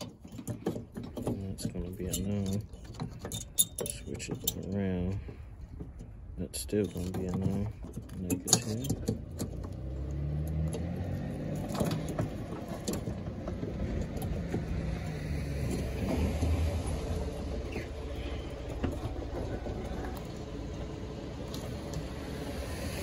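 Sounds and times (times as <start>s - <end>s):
car engine running: 0.5s - 23.0s.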